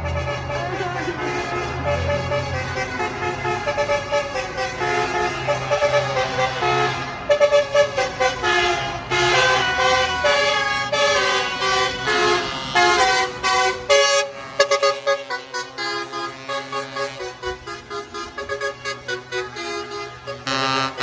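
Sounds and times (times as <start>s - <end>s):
truck horns playing a tune: 0.0s - 21.0s.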